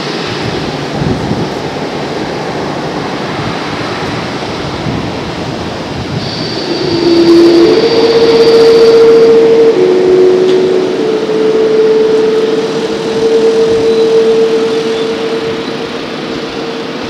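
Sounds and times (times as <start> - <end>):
high engine whine: 0.0 - 17.0
jet engines rushing: 0.0 - 17.0
lower steady tones: 0.0 - 17.0.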